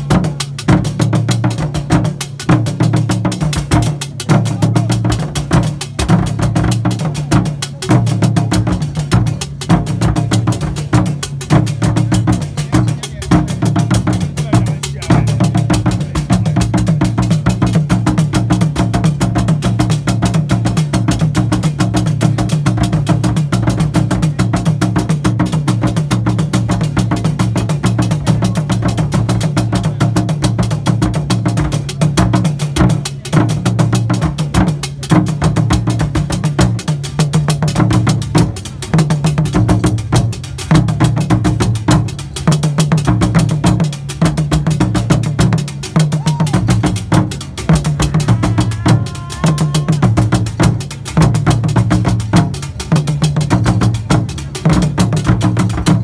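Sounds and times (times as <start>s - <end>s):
drum ensemble playing: 0.0s - 56.0s.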